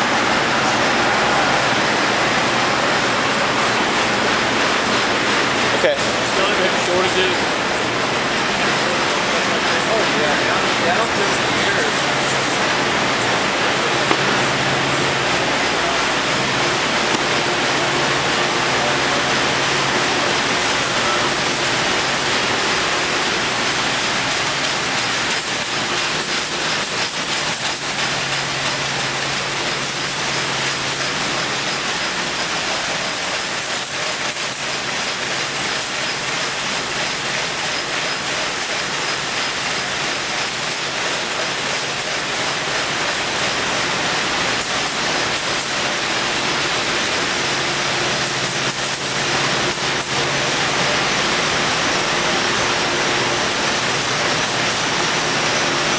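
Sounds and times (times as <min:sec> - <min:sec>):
machinery hiss and hum: 0:00.0 - 0:55.9.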